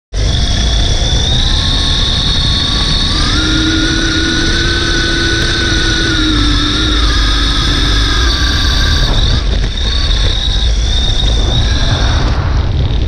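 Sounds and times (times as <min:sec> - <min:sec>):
heavy low rumble: 0:00.1 - 0:13.0
electric motor whine: 0:00.2 - 0:13.0.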